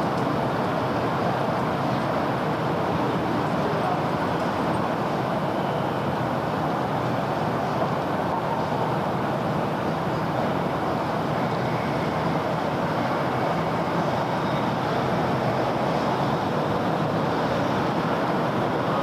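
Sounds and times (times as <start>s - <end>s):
city road traffic: 0.0s - 19.0s.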